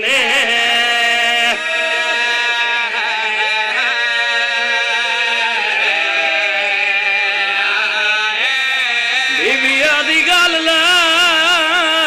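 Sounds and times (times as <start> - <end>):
men singing a mourning lament: 0.0 - 12.0.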